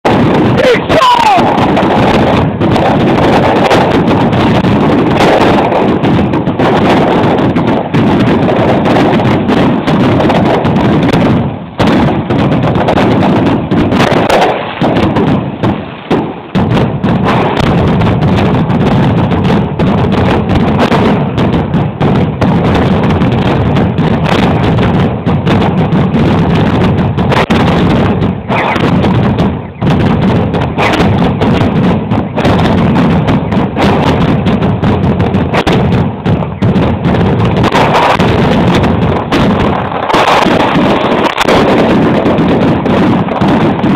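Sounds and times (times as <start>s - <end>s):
fireworks bangs and crackle: 0.0s - 43.9s.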